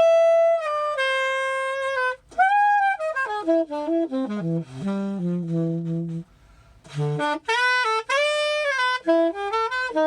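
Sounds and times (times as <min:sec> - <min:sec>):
saxophone jazz solo: 0:00.0 - 0:10.0.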